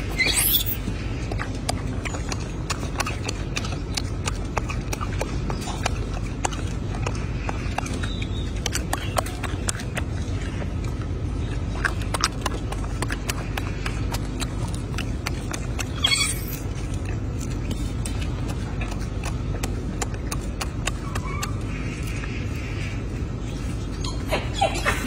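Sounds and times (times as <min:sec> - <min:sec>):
monkey chewing clicks: 0:00.0 - 0:24.2
steady low rumble: 0:00.0 - 0:25.0.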